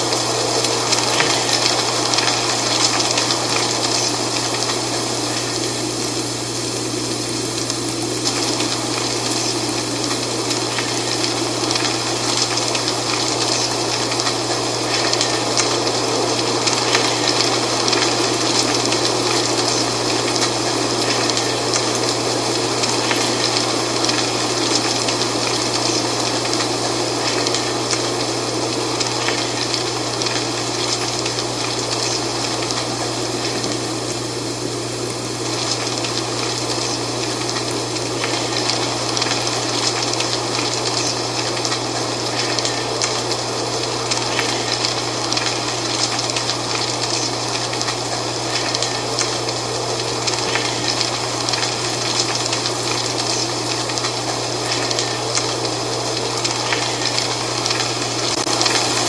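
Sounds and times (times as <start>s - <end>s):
dry leaves rustling in wind: 0.0s - 59.0s.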